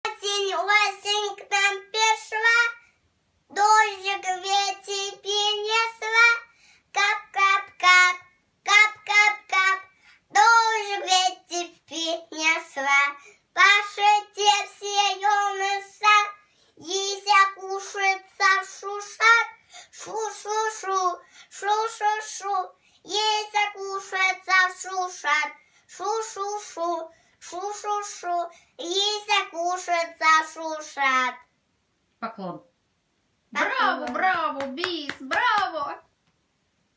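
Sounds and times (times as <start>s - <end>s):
child singing: 0.0s - 2.8s, 3.5s - 31.3s.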